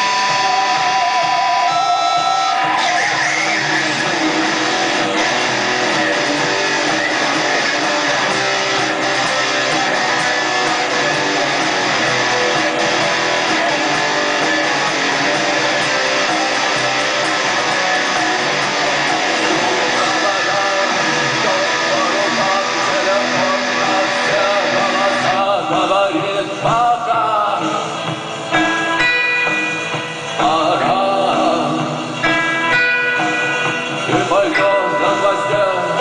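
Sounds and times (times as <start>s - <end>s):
rock band strummed guitars: 0.0s - 36.0s.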